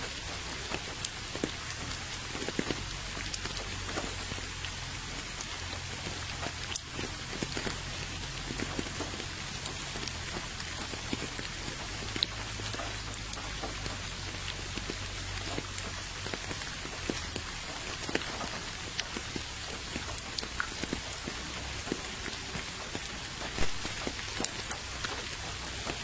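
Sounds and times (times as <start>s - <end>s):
rain hissing on wet ground: 0.0s - 26.0s
raindrop splashes: 0.0s - 26.0s.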